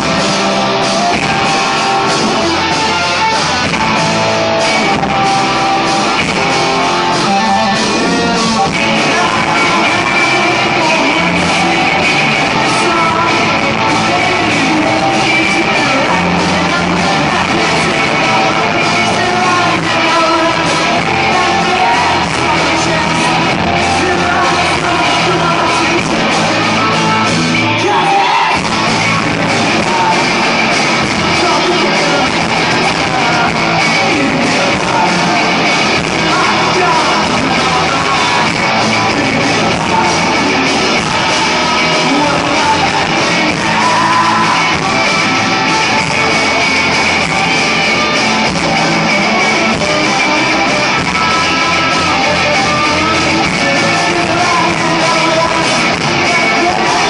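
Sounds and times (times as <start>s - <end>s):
punk rock band playing: 0.0s - 57.0s
yelled vocals: 0.0s - 57.0s.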